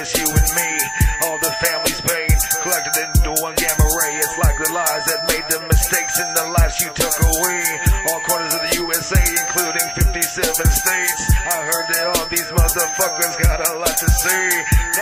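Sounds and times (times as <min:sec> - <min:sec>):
rapping over a beat: 0:00.0 - 0:15.0.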